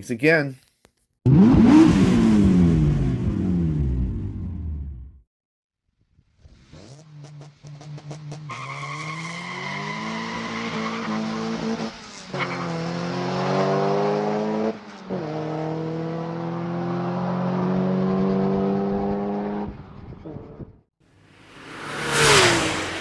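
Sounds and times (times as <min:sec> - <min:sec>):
car engine accelerating: 0:01.3 - 0:05.2, 0:06.4 - 0:20.7, 0:21.3 - 0:23.0.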